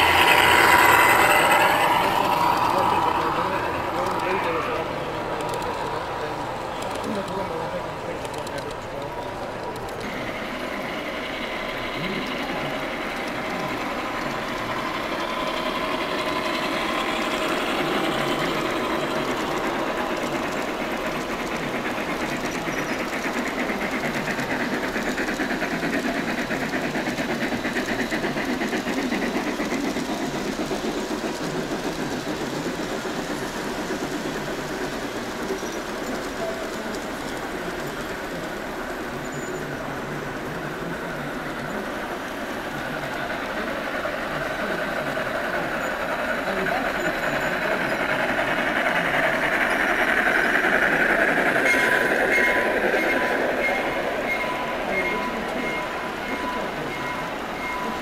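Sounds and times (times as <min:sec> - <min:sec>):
model train clattering past: 0:00.0 - 0:58.0.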